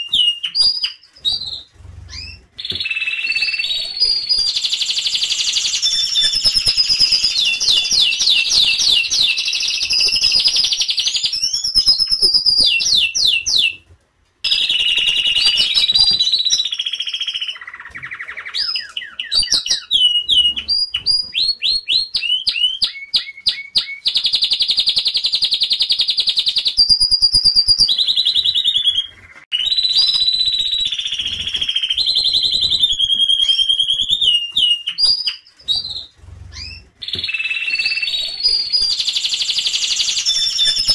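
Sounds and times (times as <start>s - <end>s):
canaries singing: 0.0s - 40.9s.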